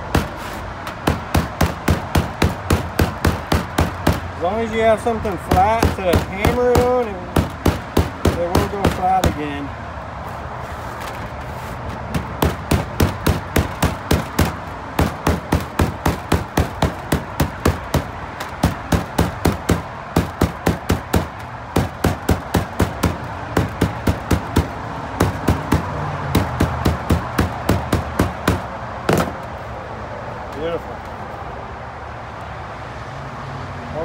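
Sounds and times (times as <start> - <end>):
sledgehammer striking metal mesh: 0.0 - 4.6, 5.2 - 9.5, 11.0 - 29.4.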